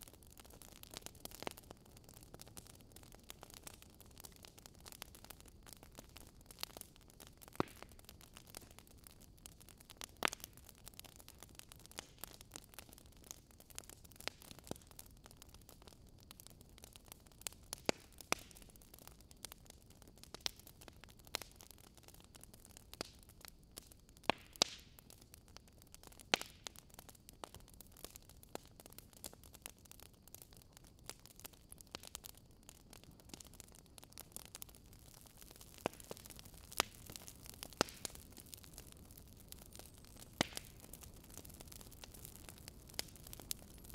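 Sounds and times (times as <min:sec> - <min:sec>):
fire popping and snapping: 0:00.0 - 0:43.9
wood fire crackling: 0:00.0 - 0:43.9.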